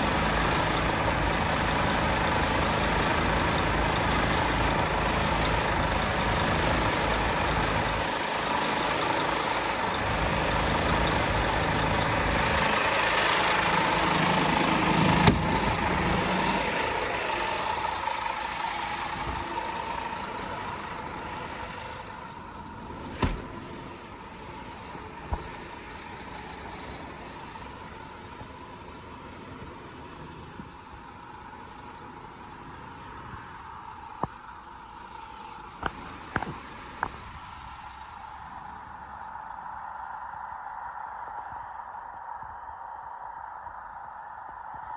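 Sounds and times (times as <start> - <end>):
truck diesel engine idling: 0.0 - 44.9.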